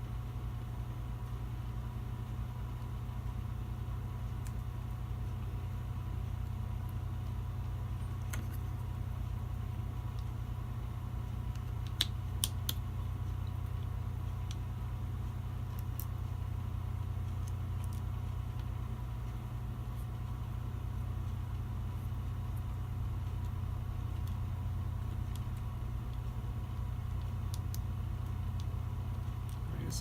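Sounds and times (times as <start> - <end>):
faint steady whine: 0.0 - 30.0
low mechanical hum: 0.0 - 30.0.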